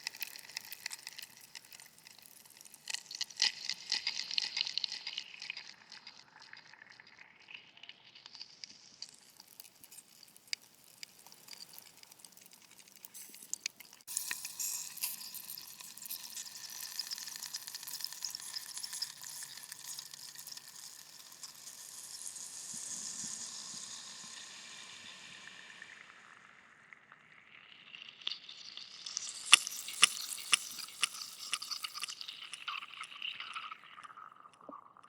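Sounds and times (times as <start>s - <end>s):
crackling sizzling hiss: 0.0s - 35.0s.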